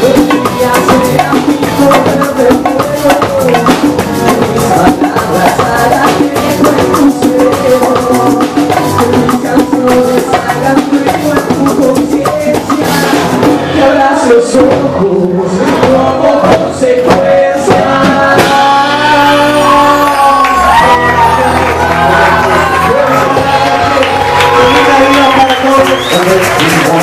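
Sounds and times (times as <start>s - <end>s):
hand drums and percussion: 0.0s - 19.6s, 20.5s - 27.0s
man singing: 0.0s - 27.0s.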